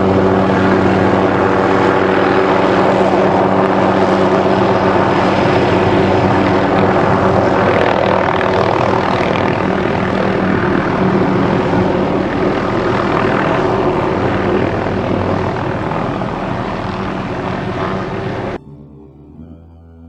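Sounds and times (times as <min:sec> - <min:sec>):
helicopter flying past: 0:00.0 - 0:18.6.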